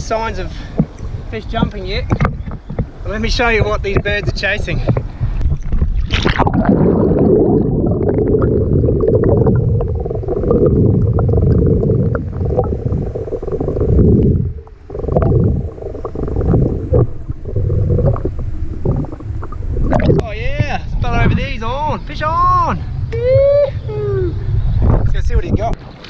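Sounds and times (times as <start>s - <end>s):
underwater rushing and gurgling: 0.2s - 21.5s.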